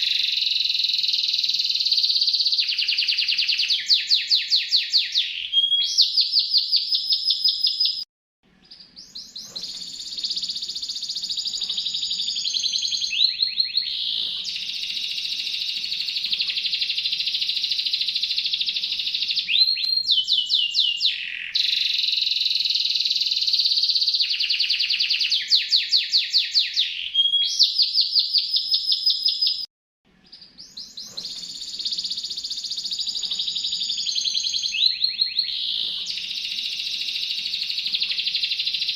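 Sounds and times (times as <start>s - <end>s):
canary singing trills: 0.0s - 8.0s, 8.6s - 38.9s.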